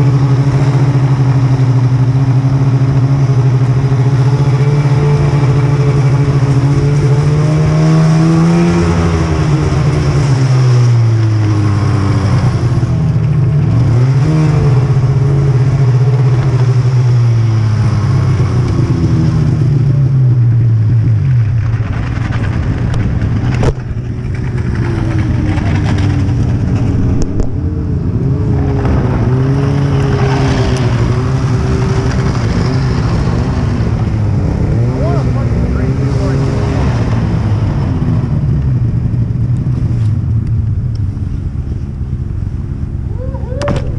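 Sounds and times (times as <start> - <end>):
snowmobile engine revving: 0.0 - 21.0, 21.8 - 40.1.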